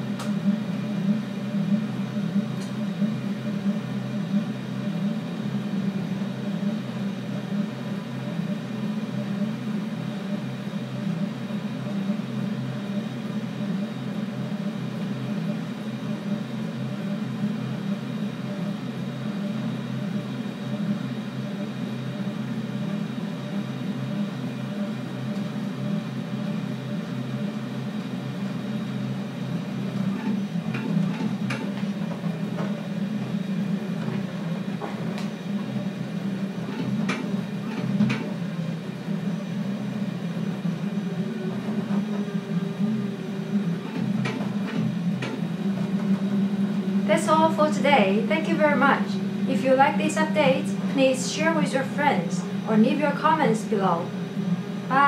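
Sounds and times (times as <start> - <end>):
stepper motors whirring hum: 0.0 - 55.0.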